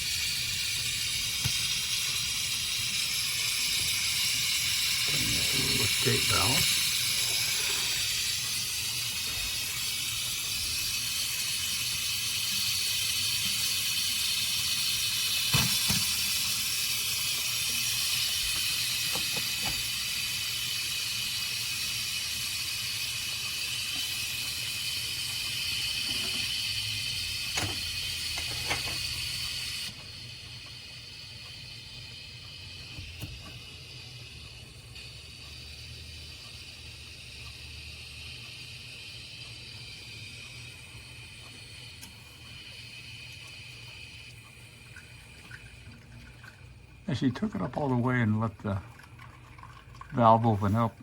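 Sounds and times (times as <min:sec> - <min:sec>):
steam hissing: 0:00.0 - 0:48.8, 0:50.2 - 0:51.0.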